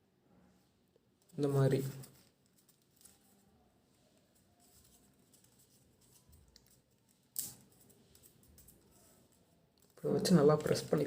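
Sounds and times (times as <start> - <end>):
paper being folded: 1.3 - 11.0.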